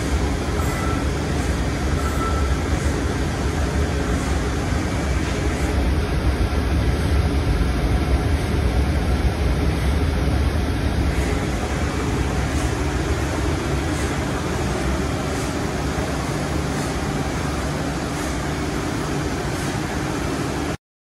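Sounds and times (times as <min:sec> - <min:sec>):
milling machine humming: 0:00.0 - 0:20.8.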